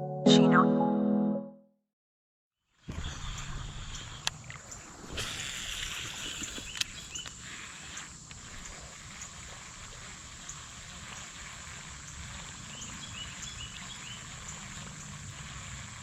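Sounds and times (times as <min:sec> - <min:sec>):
bird or insect calls: 0:02.9 - 0:16.0
flowing water: 0:02.9 - 0:16.0.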